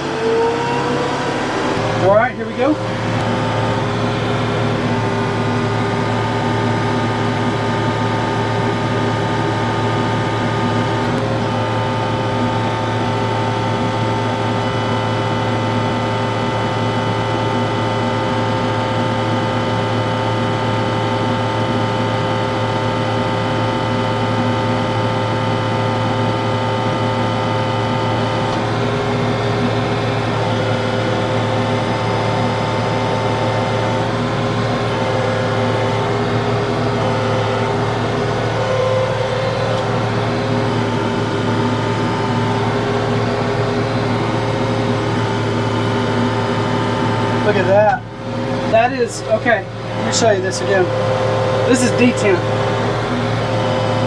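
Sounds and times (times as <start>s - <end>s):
air conditioning: 0.0s - 54.0s
tractor diesel engine running: 0.0s - 54.0s.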